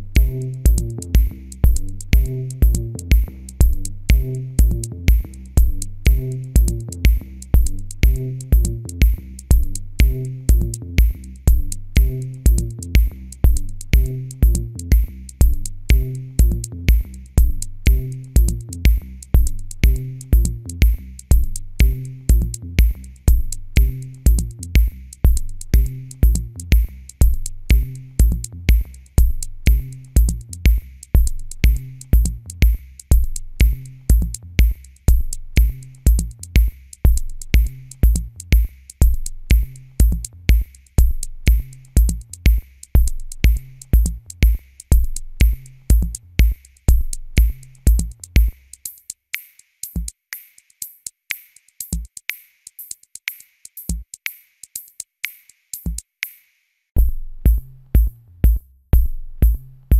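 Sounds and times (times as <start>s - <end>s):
electronic music with drum-machine beat: 0.0s - 56.4s, 57.0s - 59.9s.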